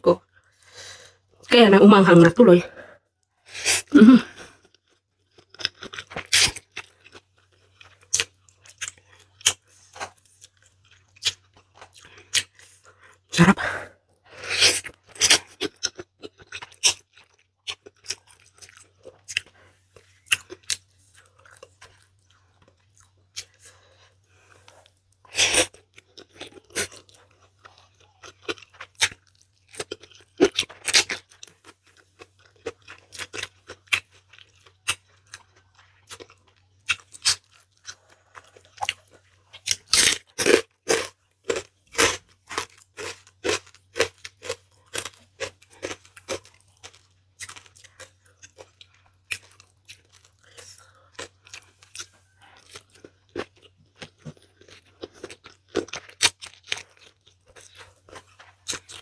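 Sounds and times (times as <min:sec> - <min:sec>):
person chewing with wet smacks: 0:04.5 - 0:13.3, 0:14.1 - 0:59.0.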